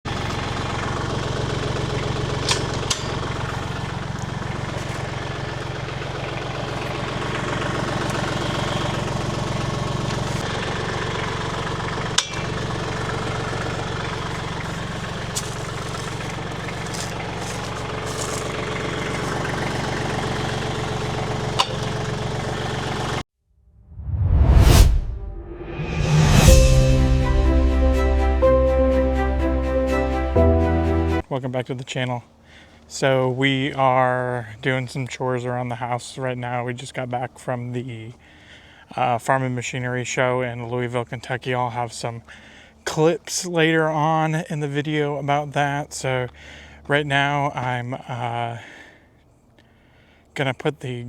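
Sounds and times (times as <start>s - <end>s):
tractor engine idling: 0.1s - 23.2s, 26.2s - 51.0s.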